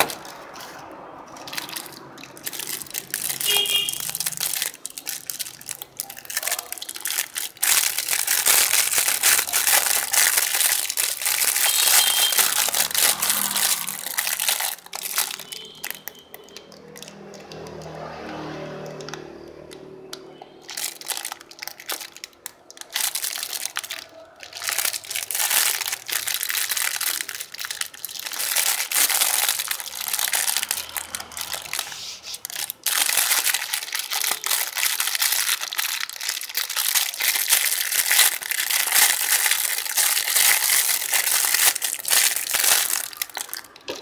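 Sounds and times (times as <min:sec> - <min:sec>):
plastic bag crinkling: 0:00.0 - 0:44.0.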